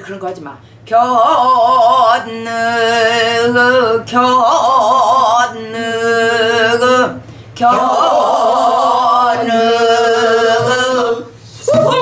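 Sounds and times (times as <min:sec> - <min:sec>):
woman singing in husky voice: 0:00.9 - 0:12.0.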